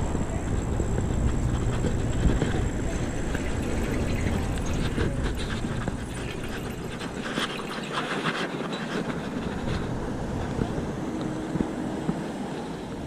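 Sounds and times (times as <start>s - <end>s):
bicycle tyres on pavement: 0.0s - 13.0s
wind rumble on microphone: 0.0s - 13.0s.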